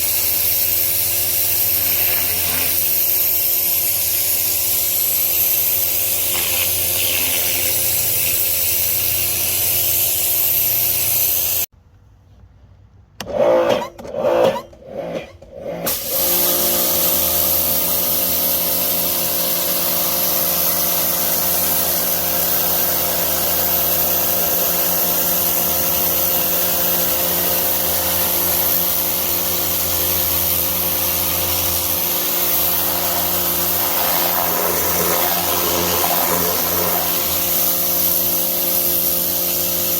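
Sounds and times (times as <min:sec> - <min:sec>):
pressure washer motor drone: 0:00.0 - 0:11.7, 0:15.7 - 0:39.9
water jet hissing: 0:00.0 - 0:11.7, 0:15.9 - 0:39.9.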